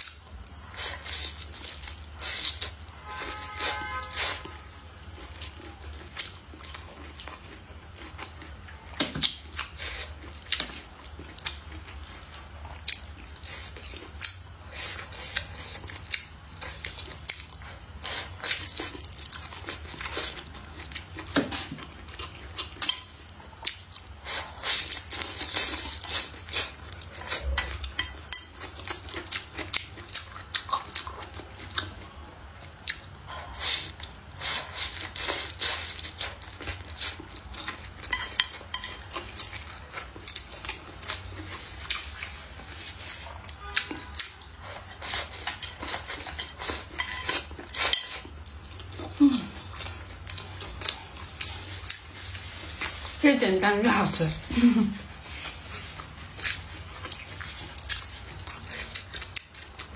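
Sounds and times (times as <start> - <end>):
chewing: 0.0 - 2.8, 3.4 - 53.2, 54.3 - 59.9.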